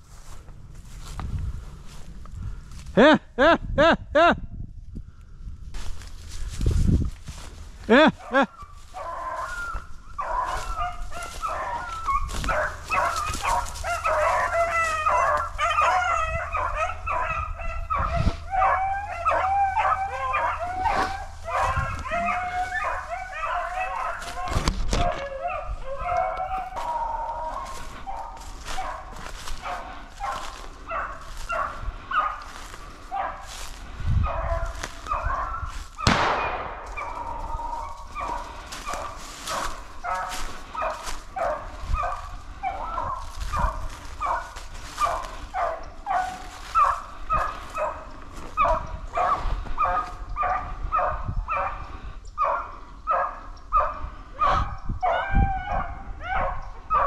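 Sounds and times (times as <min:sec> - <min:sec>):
pack of dogs baying: 0:08.0 - 0:57.0.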